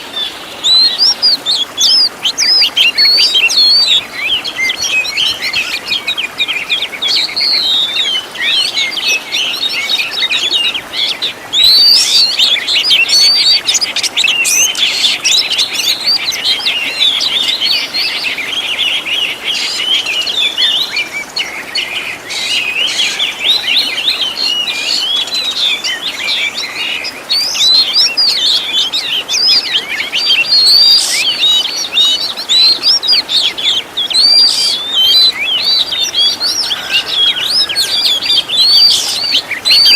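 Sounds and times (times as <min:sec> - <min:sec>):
songbird singing varied chirps: 0:00.0 - 0:39.9.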